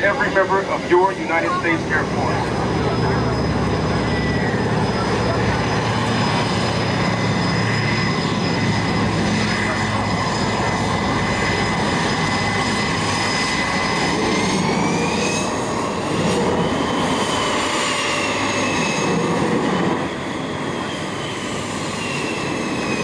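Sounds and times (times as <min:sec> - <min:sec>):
aircraft engine whine and roar: 0:00.0 - 0:23.0.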